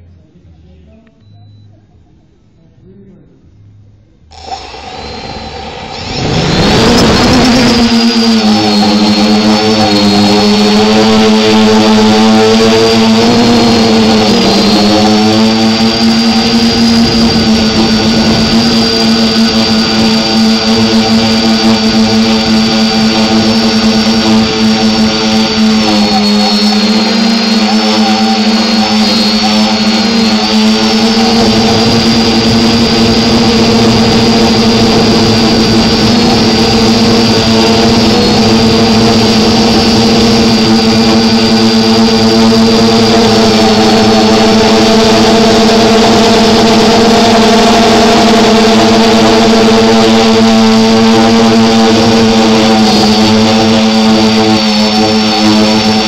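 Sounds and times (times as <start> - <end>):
drone propellers humming: 4.3 - 56.0.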